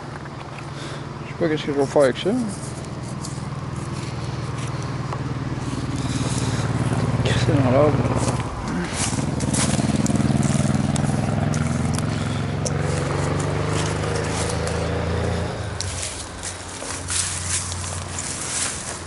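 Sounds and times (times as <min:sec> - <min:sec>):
vehicle engine running: 0:00.0 - 0:19.0
footsteps in dry leaves: 0:02.1 - 0:19.0.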